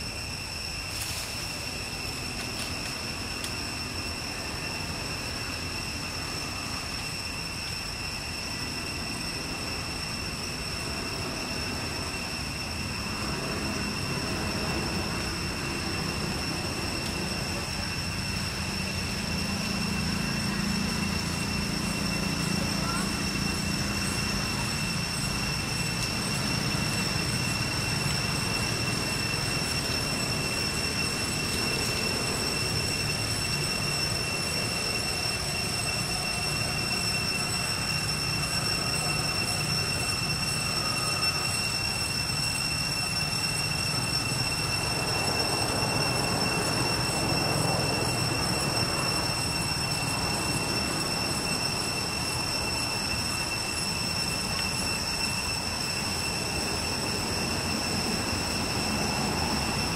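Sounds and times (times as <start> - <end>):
cicada drone: 0.0 - 59.9.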